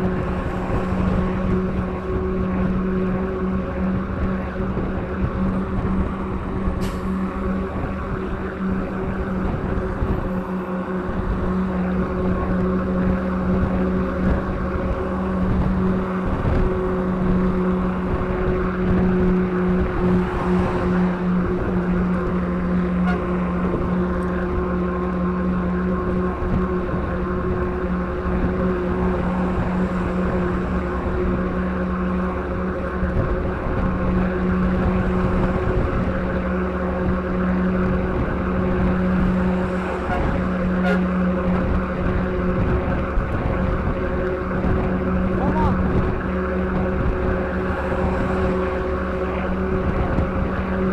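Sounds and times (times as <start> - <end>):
truck engine droning: 0.0 - 50.9
wind on microphone: 0.0 - 50.9.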